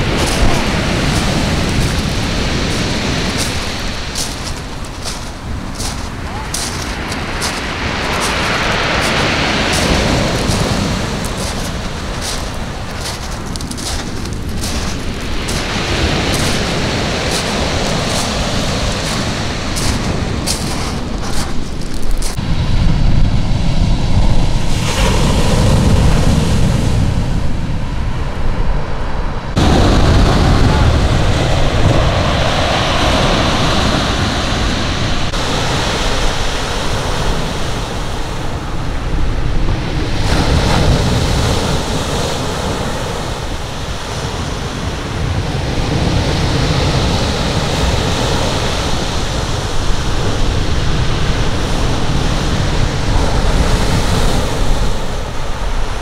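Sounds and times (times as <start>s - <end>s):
sea surf washing ashore: 0.0s - 56.0s
wind rumbling on microphone: 0.0s - 56.0s.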